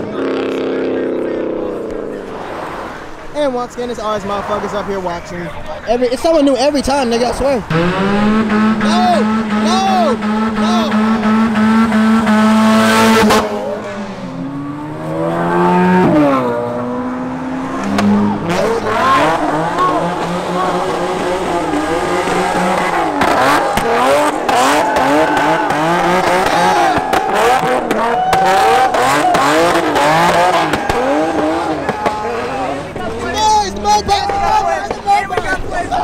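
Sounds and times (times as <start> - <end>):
car engine revving hard: 0.0 - 3.2, 7.6 - 34.6.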